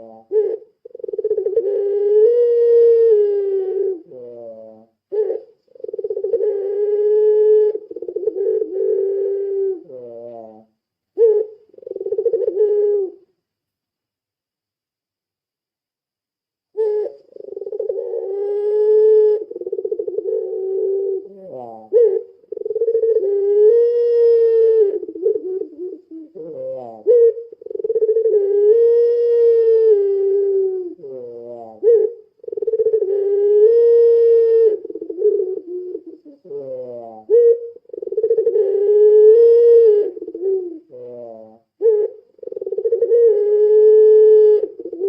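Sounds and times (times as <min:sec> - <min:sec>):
dove cooing with trill: 0:00.0 - 0:13.3, 0:16.7 - 0:45.0.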